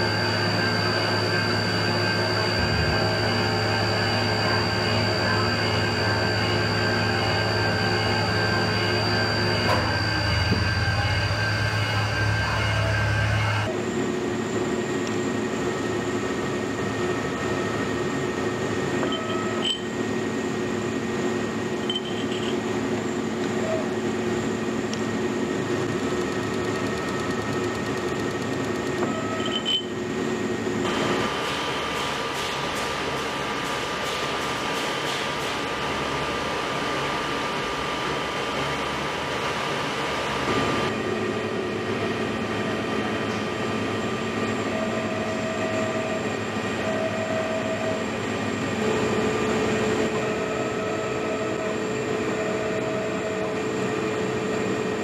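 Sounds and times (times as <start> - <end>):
machine mechanical hum: 0.0 - 55.0.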